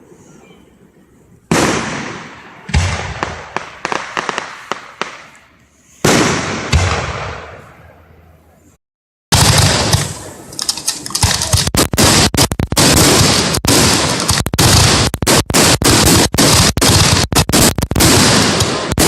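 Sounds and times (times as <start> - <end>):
fireworks bangs and crackles: 1.5 - 7.8, 9.3 - 19.0.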